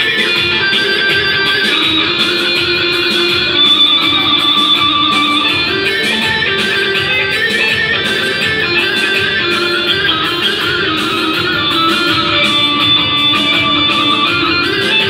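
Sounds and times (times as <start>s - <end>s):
amplified dance music: 0.0s - 15.0s
plucked-string melody: 0.0s - 15.0s
steady beat: 0.0s - 15.0s.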